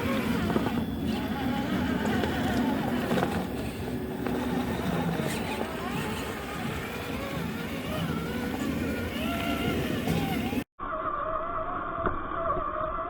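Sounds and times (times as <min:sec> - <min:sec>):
electric motor whining: 0:00.0 - 0:10.7.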